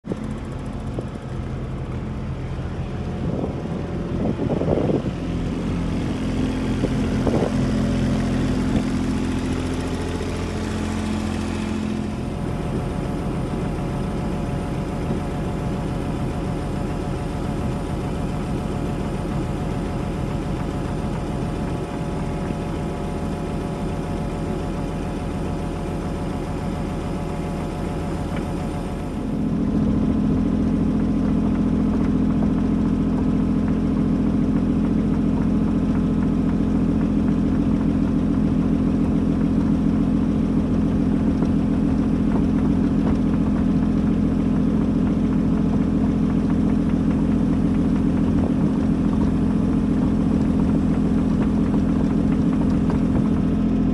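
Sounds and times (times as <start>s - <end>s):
diesel engine idling: 0.1s - 53.9s.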